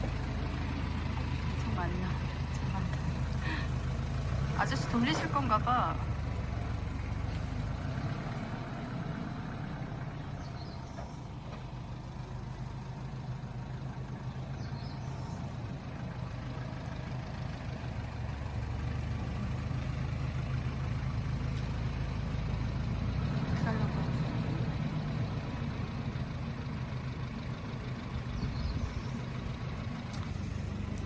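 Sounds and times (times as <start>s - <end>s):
truck engine low hum: 0.0s - 31.0s.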